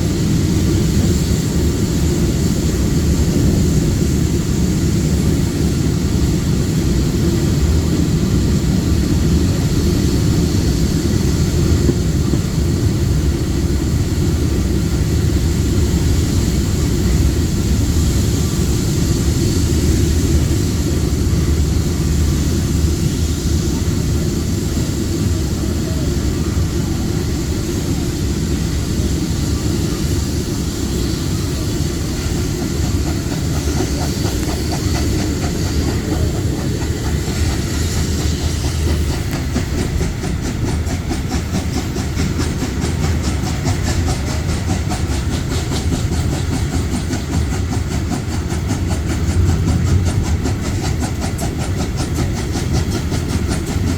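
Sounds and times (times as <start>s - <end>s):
train running low rumble: 0.0s - 53.9s.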